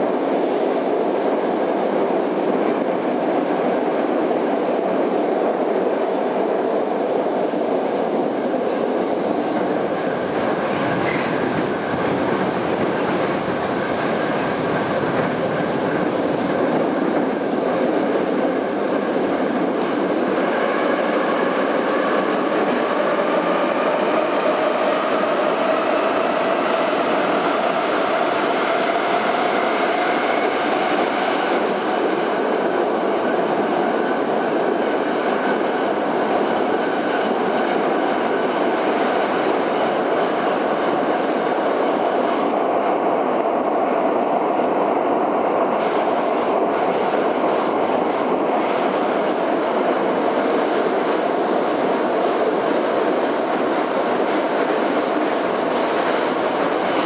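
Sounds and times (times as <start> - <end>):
metro train wheels roaring: 0.0 - 57.0.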